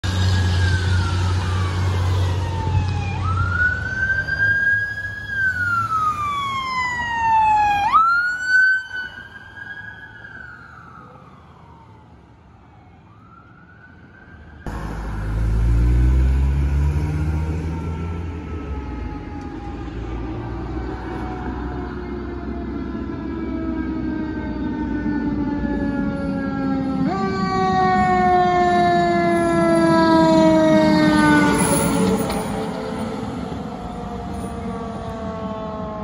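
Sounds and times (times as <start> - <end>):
electronic wail siren: 0.0 - 14.7, 17.6 - 36.0.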